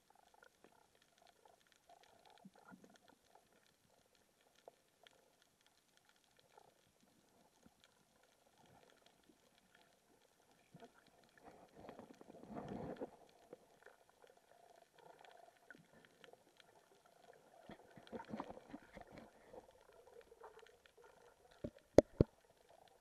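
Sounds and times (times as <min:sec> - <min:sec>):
small clicks underwater: 0:00.0 - 0:23.0
underwater water movement: 0:00.0 - 0:23.0.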